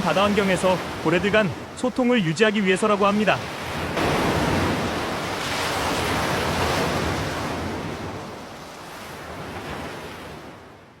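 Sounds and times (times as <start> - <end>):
ocean waves rushing: 0.0 - 11.0.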